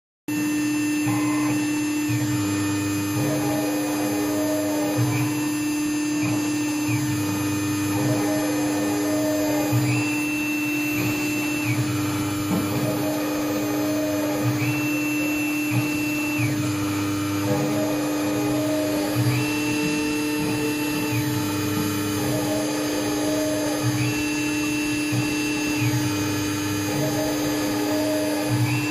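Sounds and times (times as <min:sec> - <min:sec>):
spindle humming: 0:00.3 - 0:28.9
stepper motors whining: 0:00.4 - 0:28.9.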